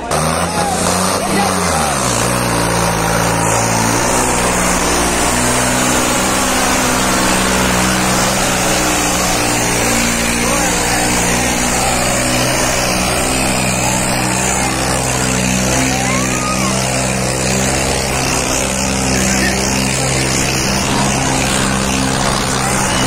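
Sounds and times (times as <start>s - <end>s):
crowd noise: 0.0s - 23.0s
tractor diesel engine droning: 0.0s - 23.0s.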